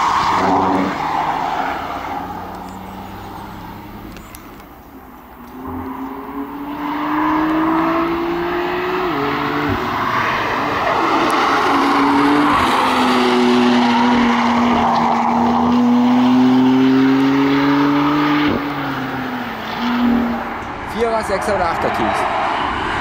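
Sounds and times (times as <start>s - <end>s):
car engine accelerating: 0.0s - 20.7s.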